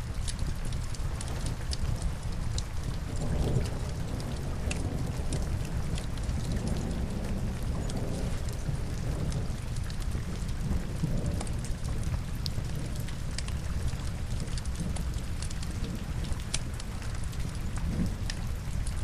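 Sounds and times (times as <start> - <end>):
burning logs crackling: 0.0 - 19.0
steady rain: 0.0 - 19.0.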